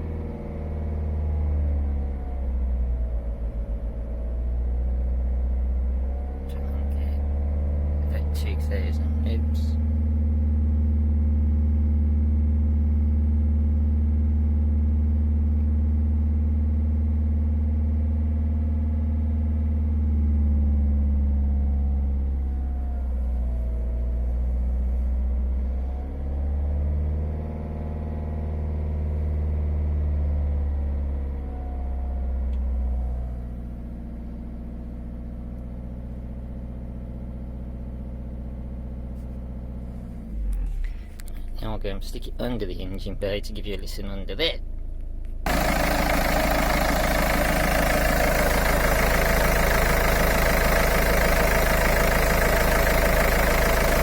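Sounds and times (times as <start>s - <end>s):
diesel engine revving: 0.0s - 13.0s, 17.8s - 42.9s, 45.4s - 54.0s.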